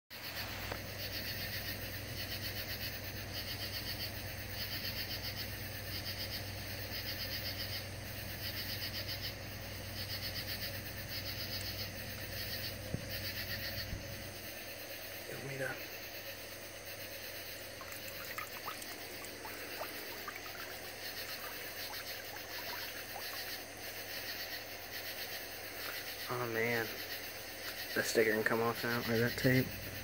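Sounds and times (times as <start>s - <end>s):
insects chirping: 0.1s - 30.0s
steady low hum: 0.2s - 30.0s.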